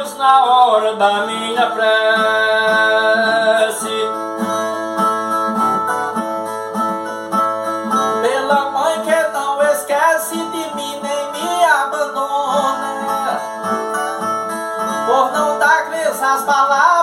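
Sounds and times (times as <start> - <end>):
bending melodic guitar phrase: 0.0 - 17.0
strummed steel-string guitar: 0.0 - 17.0.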